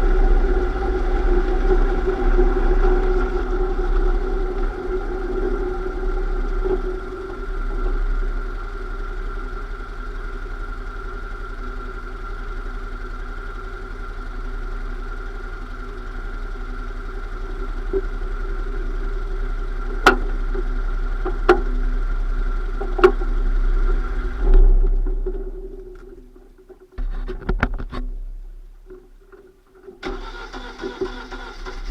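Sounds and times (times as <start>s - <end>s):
drivetrain humming: 0.0s - 31.9s.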